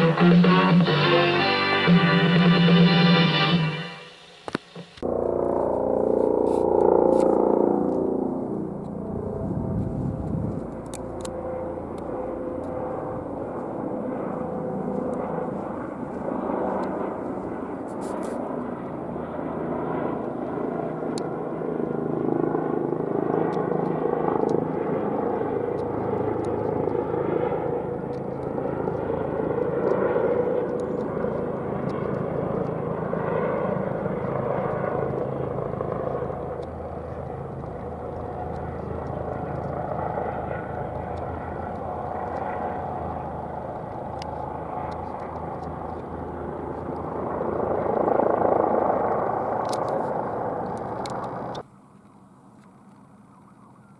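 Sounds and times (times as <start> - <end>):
helicopter engine and rotor: 5.0 - 53.9.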